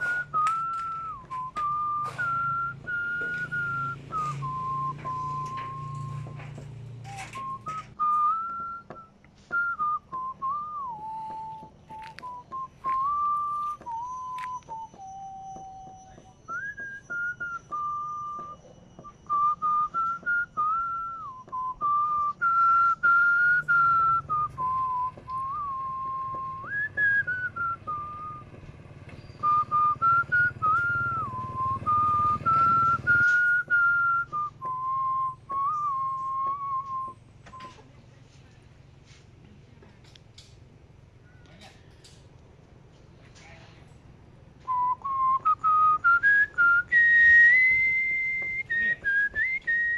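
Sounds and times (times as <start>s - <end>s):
person whistling a slow tune: 0.0s - 37.9s, 44.6s - 49.9s.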